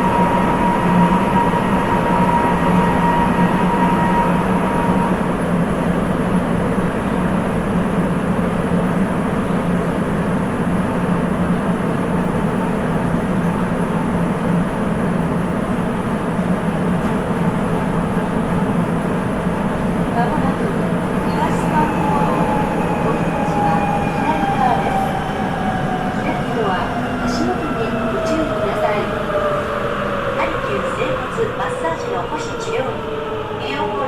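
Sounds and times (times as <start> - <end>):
subway car rumble: 0.0 - 34.0.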